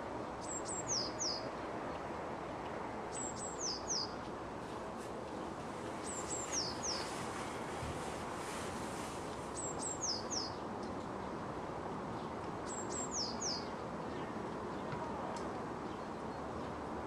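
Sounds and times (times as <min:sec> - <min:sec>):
distant city hum: 0:00.0 - 0:17.0.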